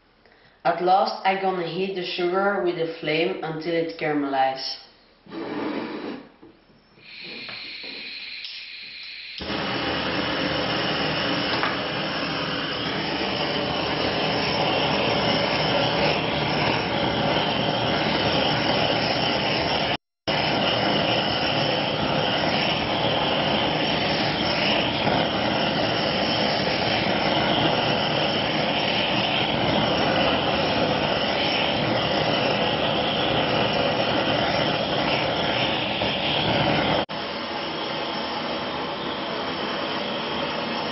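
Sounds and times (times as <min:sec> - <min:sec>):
blowtorch flame hissing: 0:07.0 - 0:40.9.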